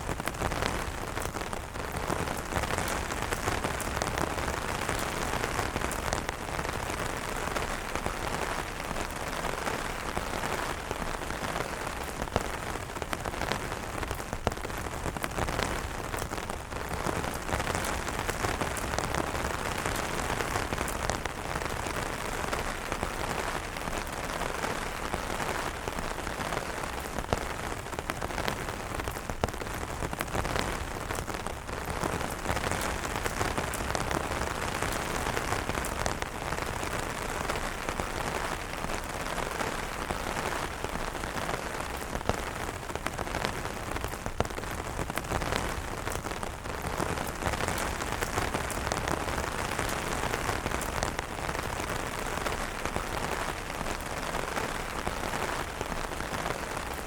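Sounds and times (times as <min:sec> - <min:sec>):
rain falling on umbrellas: 0:00.0 - 0:57.0.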